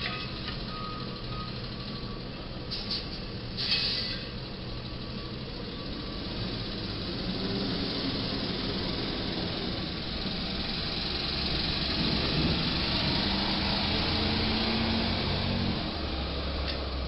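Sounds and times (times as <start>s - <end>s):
diesel truck engine running: 0.0s - 17.0s
traffic noise: 0.0s - 17.0s.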